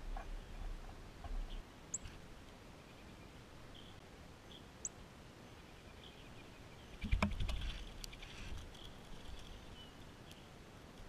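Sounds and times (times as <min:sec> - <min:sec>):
small birds chirping: 0:00.1 - 0:10.6.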